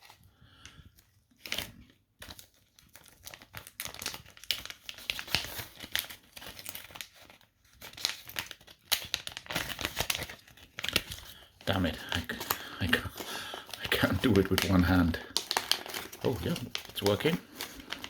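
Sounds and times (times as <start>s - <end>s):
packaging crinkling: 0.0s - 18.0s.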